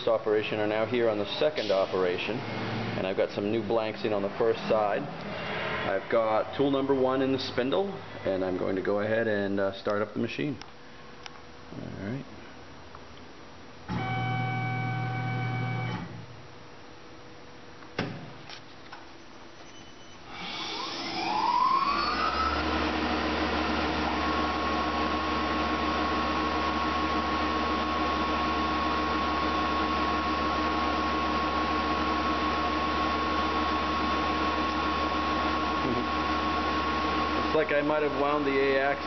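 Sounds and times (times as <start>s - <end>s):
mill spindle whine and hum: 0.0s - 9.4s, 13.5s - 17.7s, 19.0s - 39.0s
rotary unit high whine: 0.0s - 39.0s.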